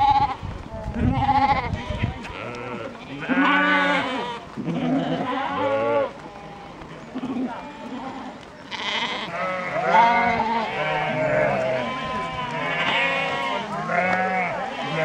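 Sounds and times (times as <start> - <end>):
sheep bleating: 0.0 - 15.0.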